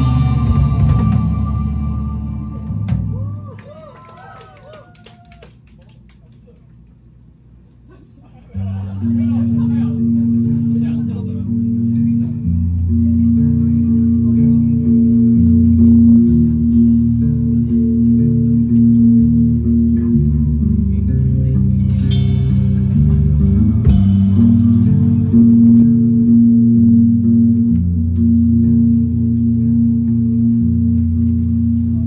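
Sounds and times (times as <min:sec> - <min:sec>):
live band music: 0:00.0 - 0:03.3, 0:09.2 - 0:32.0.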